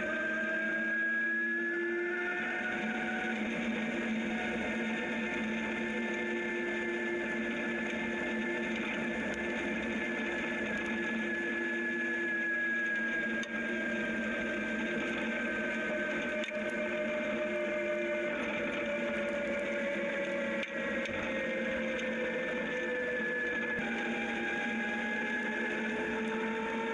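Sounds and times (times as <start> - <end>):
electric motorcycle motor whine: 0.0 - 26.9.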